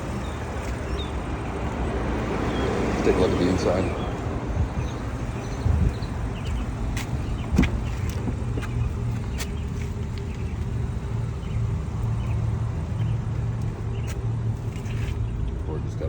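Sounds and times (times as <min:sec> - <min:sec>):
low vehicle hum: 0:00.0 - 0:16.0.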